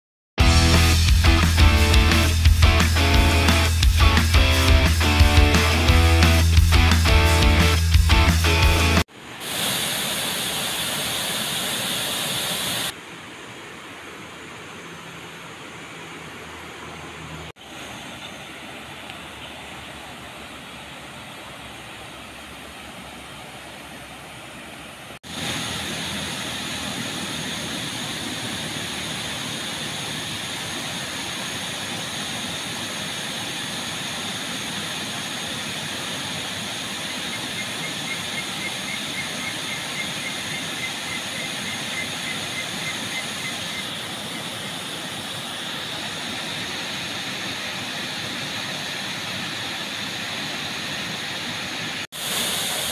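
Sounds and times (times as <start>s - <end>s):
flowing river water: 0.6s - 52.9s
waterfall roaring into a pool: 8.4s - 52.9s.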